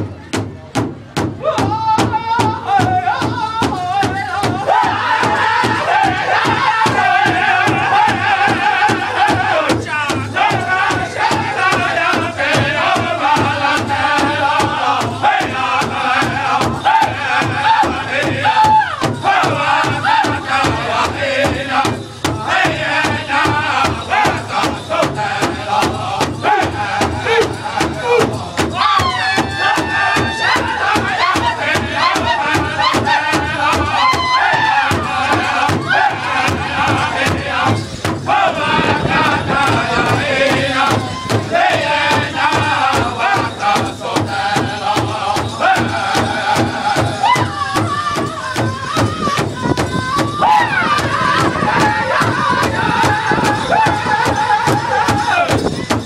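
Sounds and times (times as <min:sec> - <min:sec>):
large drum steady beat: 0:00.0 - 0:56.0
men singing in high wavering voices: 0:01.4 - 0:56.0.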